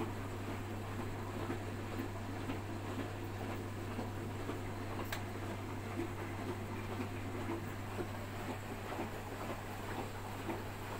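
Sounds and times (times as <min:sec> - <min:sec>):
washing machine humming: 0:00.0 - 0:10.9.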